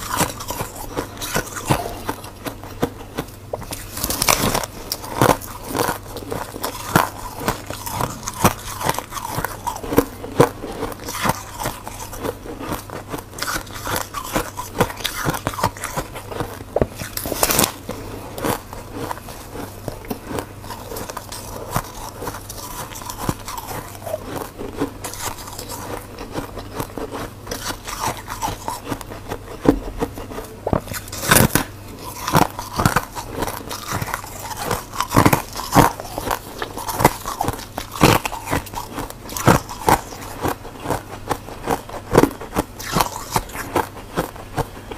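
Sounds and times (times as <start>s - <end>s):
person crunching frost: 0.0s - 44.9s.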